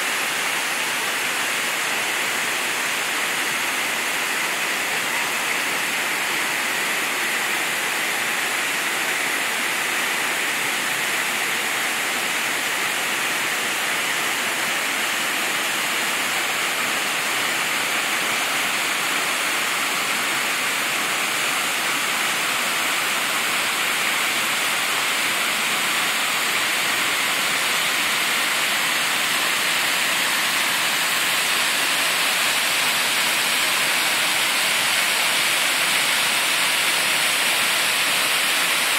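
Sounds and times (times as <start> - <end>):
creek cascading over rocks: 0.0 - 38.9.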